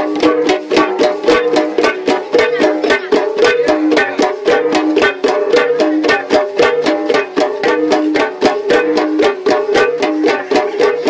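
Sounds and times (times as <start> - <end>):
flat gongs played rhythmically: 0.0 - 11.0.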